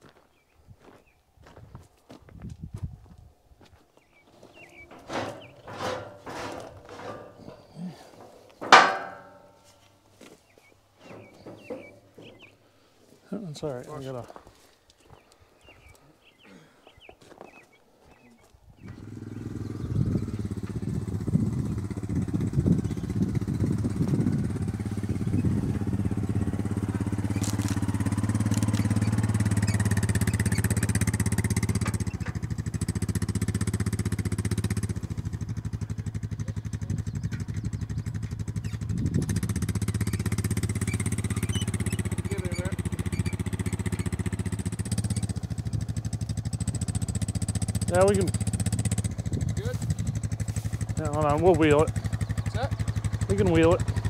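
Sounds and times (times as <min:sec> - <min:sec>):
atv engine running: 0:04.2 - 0:12.8, 0:18.8 - 0:54.0.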